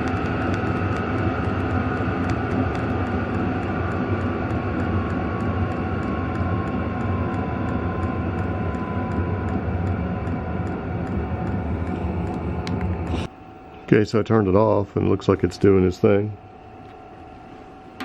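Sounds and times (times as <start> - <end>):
heater blower and burner roar: 0.0 - 18.0.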